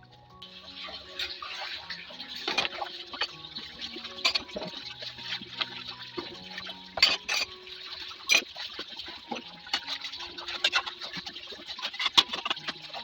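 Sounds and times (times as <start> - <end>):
water running and splashing: 0.4 - 13.0
kitchenware clicking and clattering: 0.8 - 13.0.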